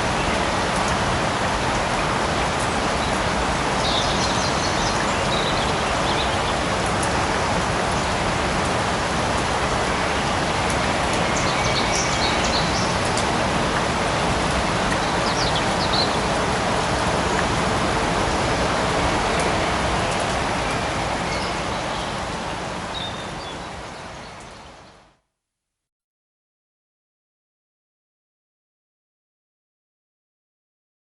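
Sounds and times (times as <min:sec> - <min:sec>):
light rain falling: 0:00.0 - 0:25.3.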